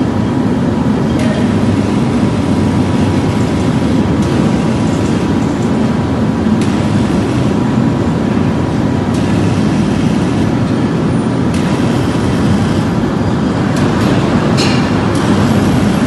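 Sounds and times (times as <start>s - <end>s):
heavy machinery rumbling: 0.0s - 16.0s.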